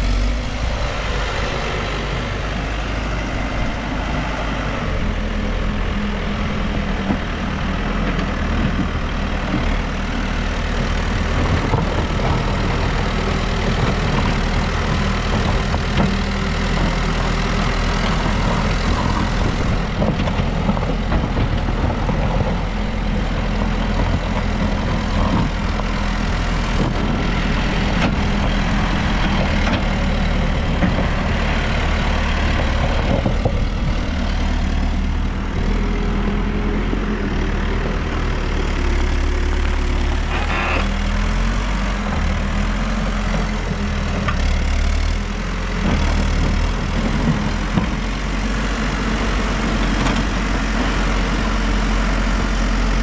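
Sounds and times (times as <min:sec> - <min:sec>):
backhoe diesel engine running: 0:00.0 - 0:53.0.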